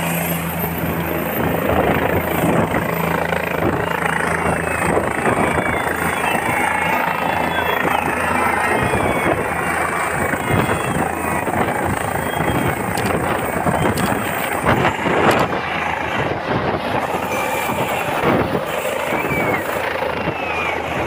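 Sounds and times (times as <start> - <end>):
helicopter turbine and rotor: 0.0 - 21.0.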